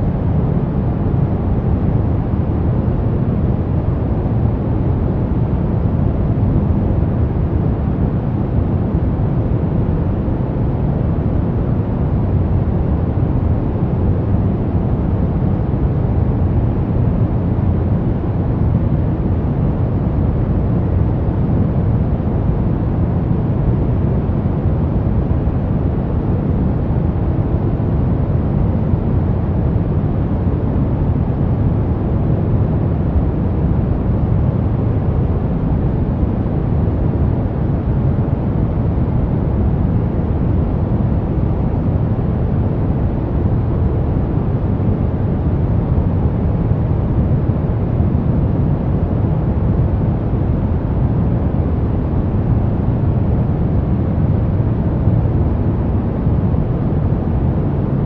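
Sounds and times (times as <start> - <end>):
brown noise: 0.0 - 58.0.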